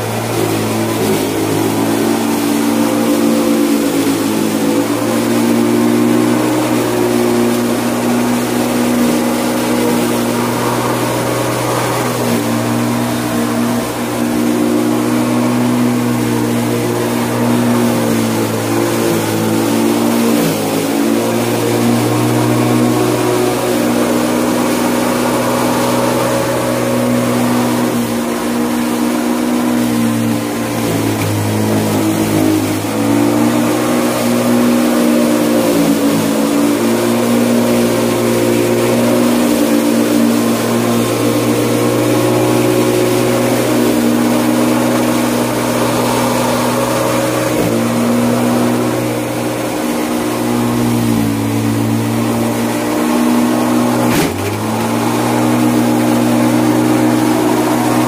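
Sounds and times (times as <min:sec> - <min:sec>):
electric lawnmower motor whine: 0:00.0 - 0:58.0.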